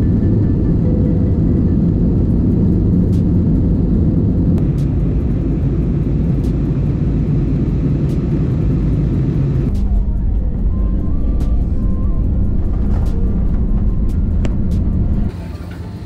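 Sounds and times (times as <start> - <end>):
jet engine roar in cabin: 0.0 - 16.0.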